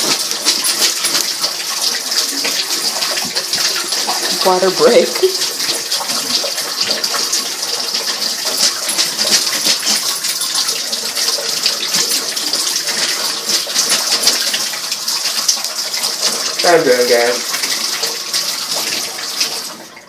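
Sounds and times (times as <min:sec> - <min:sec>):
tap water running into bathtub: 0:00.0 - 0:20.0.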